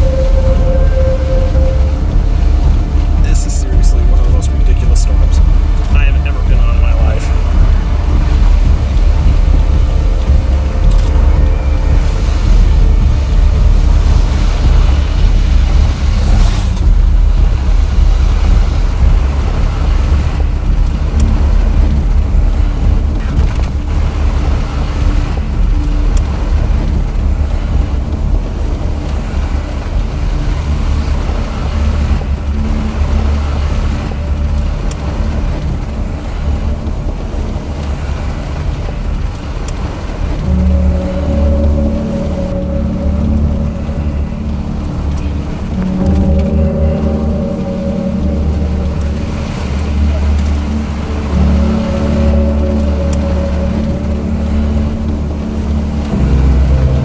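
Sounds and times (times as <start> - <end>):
road and engine noise: 0.0 - 57.0
steady hum: 0.0 - 57.0.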